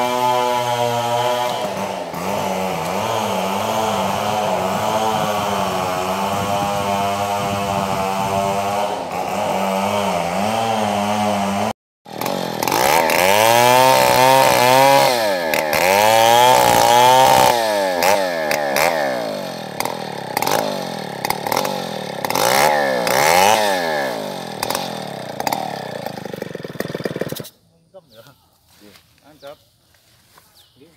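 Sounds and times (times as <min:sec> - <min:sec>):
chainsaw revving cutting wood: 0:00.0 - 0:27.6.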